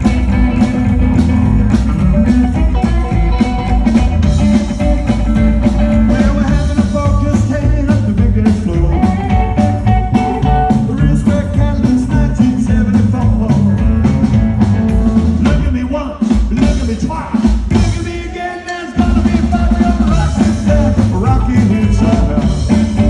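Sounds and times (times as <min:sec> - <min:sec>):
live rockabilly band playing: 0:00.0 - 0:23.0.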